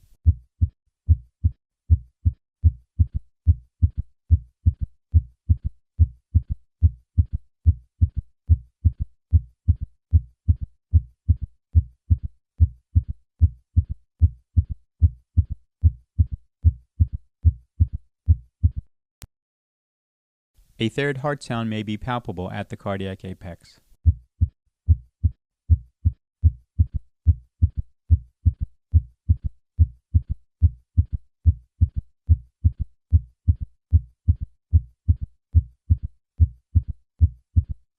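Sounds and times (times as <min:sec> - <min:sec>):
heartbeat gallop through stethoscope: 0:00.2 - 0:18.9, 0:24.0 - 0:37.8.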